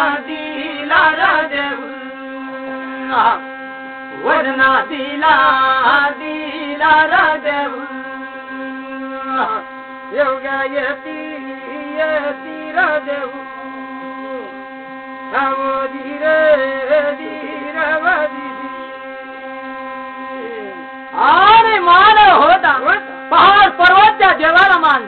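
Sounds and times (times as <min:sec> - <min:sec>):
person chanting: 0:00.0 - 0:03.4, 0:04.1 - 0:14.6, 0:15.3 - 0:19.0, 0:20.3 - 0:25.0
brass plate drone: 0:00.0 - 0:25.0.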